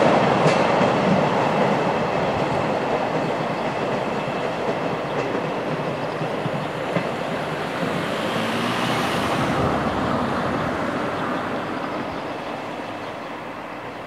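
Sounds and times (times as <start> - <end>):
freight train rumbling on track: 0.0 - 14.0.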